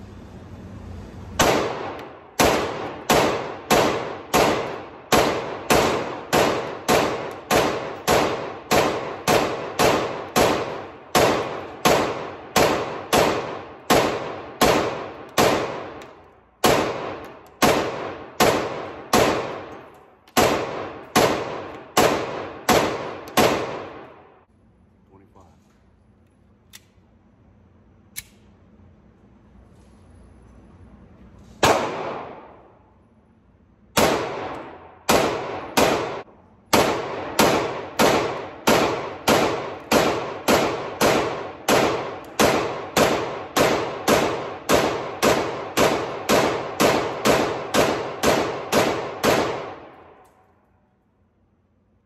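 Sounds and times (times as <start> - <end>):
pistol shots echoing indoors: 1.4 - 24.6, 31.6 - 52.0.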